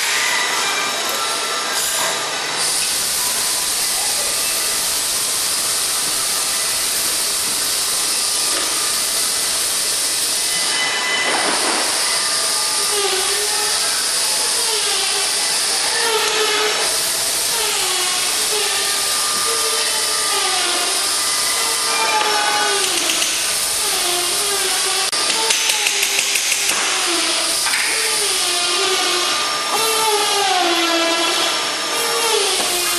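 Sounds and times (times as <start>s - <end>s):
steady machine hiss: 0.0s - 32.9s.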